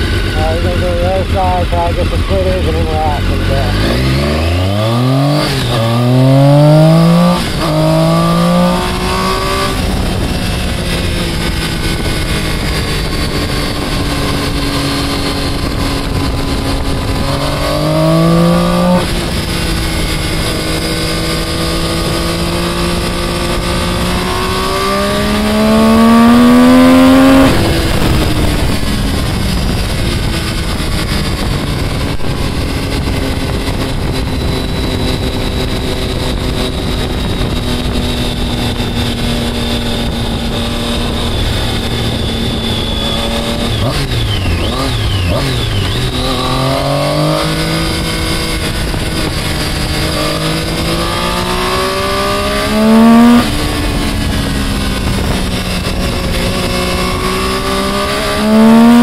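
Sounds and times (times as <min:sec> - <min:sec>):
engine revving: 0:00.0 - 0:59.0
wind rush: 0:00.0 - 0:59.0.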